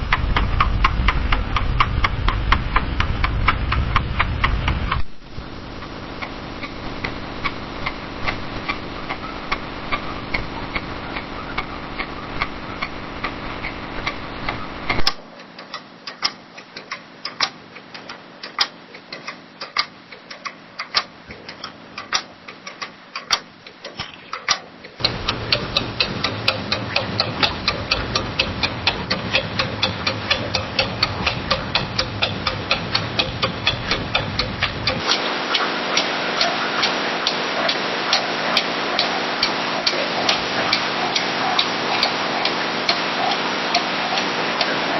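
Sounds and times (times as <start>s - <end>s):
clock ticking: 0.0s - 44.9s
room noise hum: 0.0s - 44.9s.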